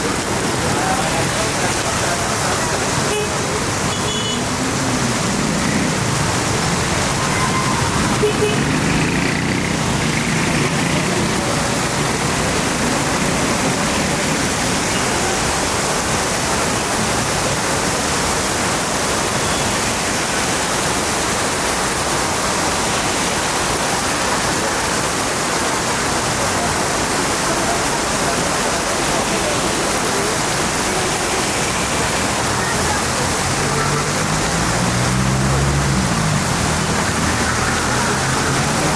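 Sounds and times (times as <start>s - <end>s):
rushing rain runoff water: 0.0s - 38.9s.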